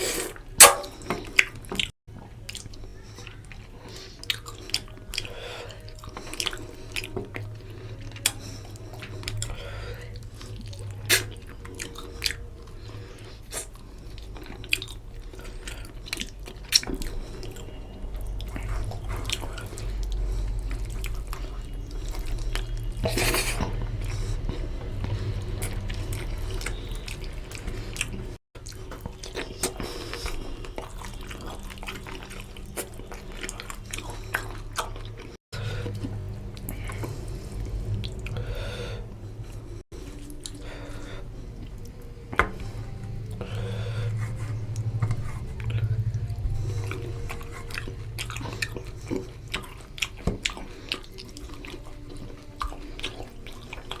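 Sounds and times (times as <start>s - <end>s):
wet chewing and mouth sounds: 0.0s - 54.0s
steady low hum: 2.1s - 54.0s.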